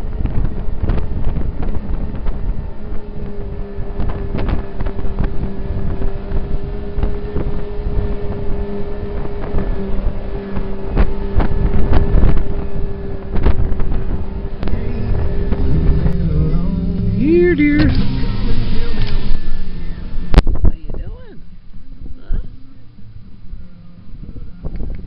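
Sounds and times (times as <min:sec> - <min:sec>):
snowmobile engine whine: 0:00.0 - 0:25.0
wind buffeting microphone: 0:00.0 - 0:25.0.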